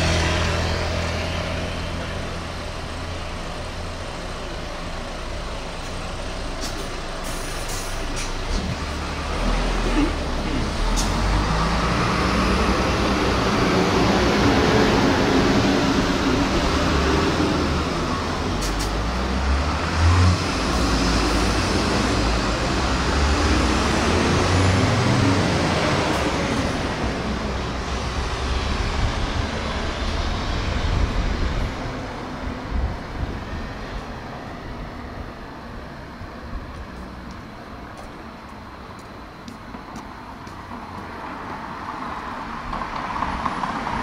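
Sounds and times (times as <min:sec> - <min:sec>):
bus engine rumble: 0:00.0 - 0:44.0
road traffic passing: 0:00.0 - 0:44.0.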